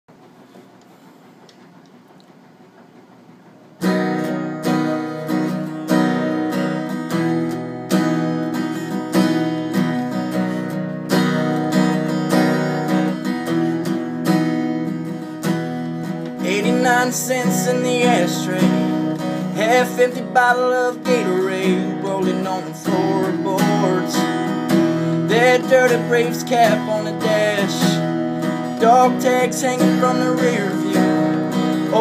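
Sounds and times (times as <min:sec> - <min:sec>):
acoustic guitar strumming chords: 0:03.8 - 0:32.0.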